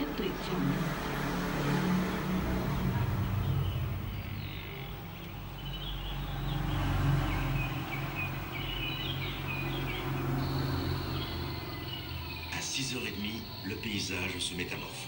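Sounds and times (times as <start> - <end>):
steady low hum: 0.0 - 14.9
birds chirping: 0.0 - 15.0.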